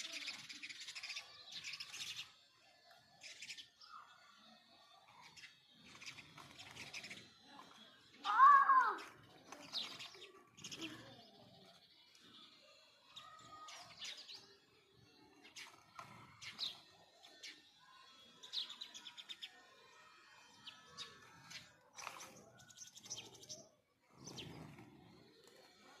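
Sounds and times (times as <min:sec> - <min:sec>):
sparrows chirping: 0:00.0 - 0:26.0.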